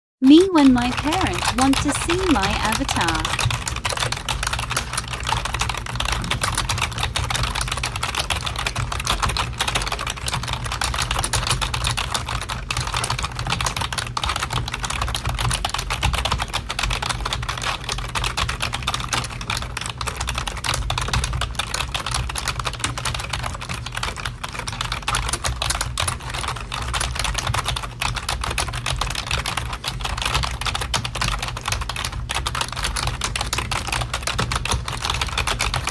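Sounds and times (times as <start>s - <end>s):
fast typing on a keyboard: 0.2s - 35.9s.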